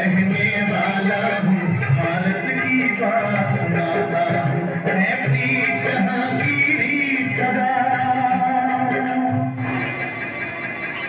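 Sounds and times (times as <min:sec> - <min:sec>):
instrumental film song music: 0:00.0 - 0:11.0.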